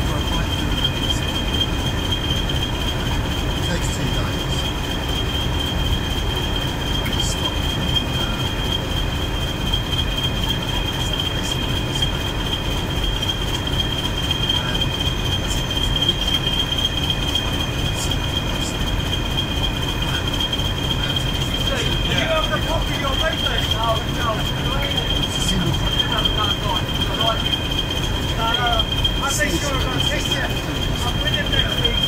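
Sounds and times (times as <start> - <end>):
diesel train engine rumble: 0.0 - 32.0
high-pitched whine: 0.0 - 32.0.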